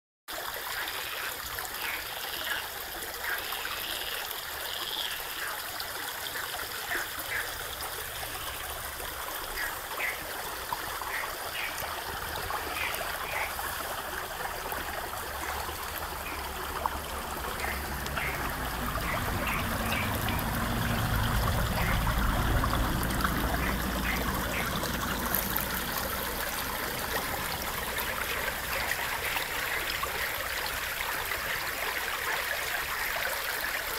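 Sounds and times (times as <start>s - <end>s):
stream trickling and gurgling: 0.3s - 33.9s.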